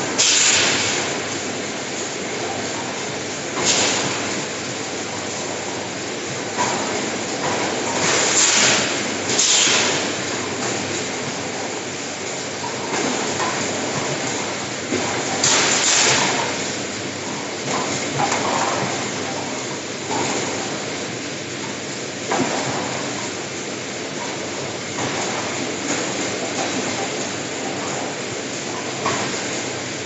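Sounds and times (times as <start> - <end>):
machinery rumble and clatter: 0.0 - 30.0.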